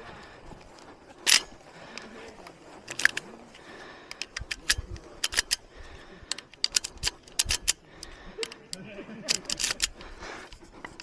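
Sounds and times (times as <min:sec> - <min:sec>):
cartridges clicking into rifle: 0:01.2 - 0:03.3, 0:04.1 - 0:11.0.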